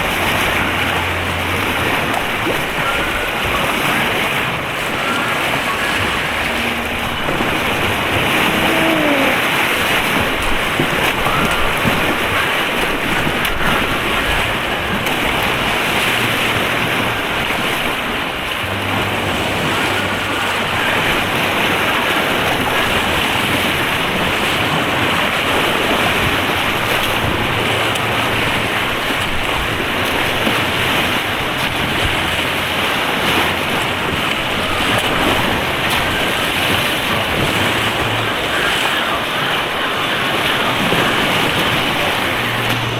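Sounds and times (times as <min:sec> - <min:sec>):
white-water rapids rushing: 0:00.0 - 0:42.9.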